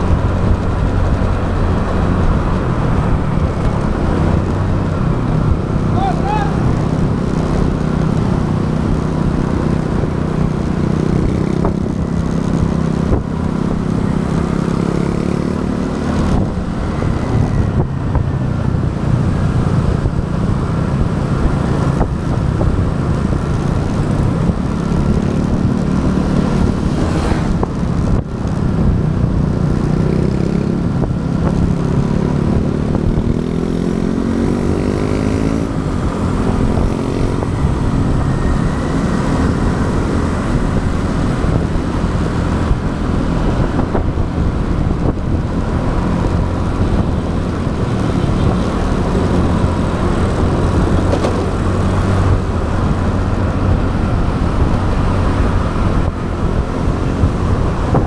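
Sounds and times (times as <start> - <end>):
motorbike engine running: 0.0 - 58.0
wind and road noise: 0.0 - 58.0.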